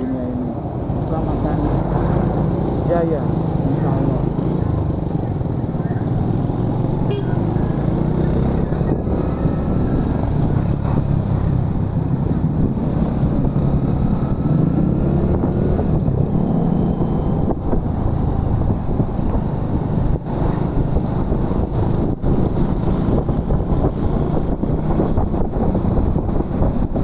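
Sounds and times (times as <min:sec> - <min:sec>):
motorcycle engine rumble: 0:00.0 - 0:27.0
wind hissing over microphone: 0:00.0 - 0:27.0.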